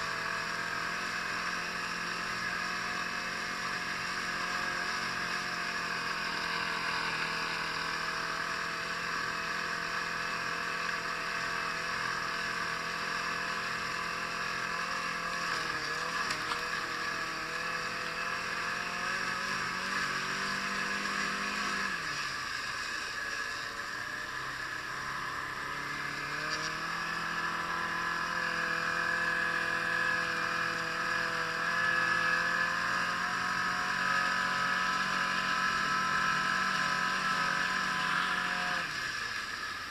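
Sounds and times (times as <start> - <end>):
snowmobile engine cruising: 0.0 - 39.9.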